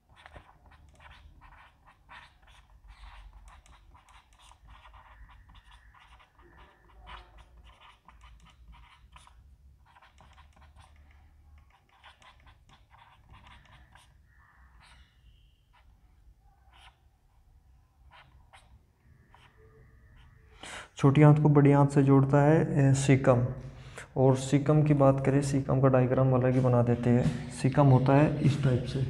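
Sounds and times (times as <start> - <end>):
marker scratching on whiteboard: 0.0 - 20.5, 24.4 - 29.0.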